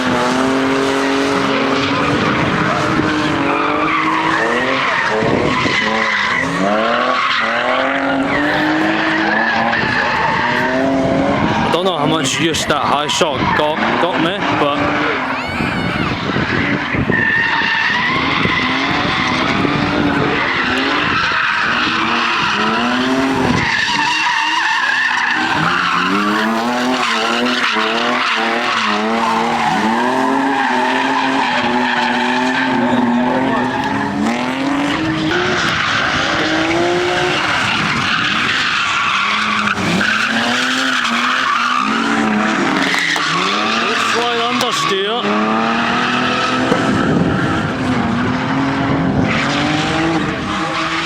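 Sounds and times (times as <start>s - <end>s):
car engine revving: 0.0s - 51.0s
tyres screeching: 0.9s - 48.6s.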